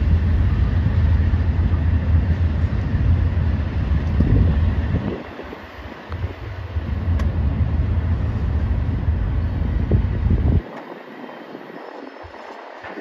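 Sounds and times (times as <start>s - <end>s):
diesel train rumble: 0.0s - 13.0s
noisy haze: 0.0s - 13.0s
wind buffeting microphone: 0.0s - 13.0s.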